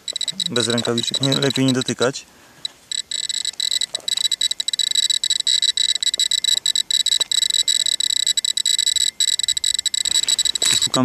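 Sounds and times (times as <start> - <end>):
dosimeter chirping rapidly: 0.0 - 11.0.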